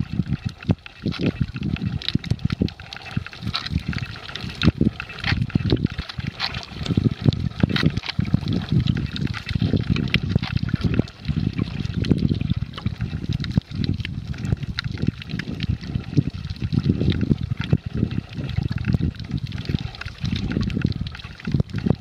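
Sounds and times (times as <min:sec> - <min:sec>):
underwater sloshing and gurgling: 0:00.0 - 0:22.0.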